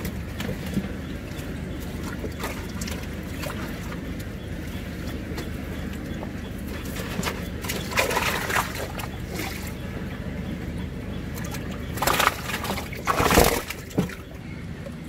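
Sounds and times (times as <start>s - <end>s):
fish thrashing and splashing in water: 0.0s - 14.5s
steady low hum: 0.0s - 15.0s.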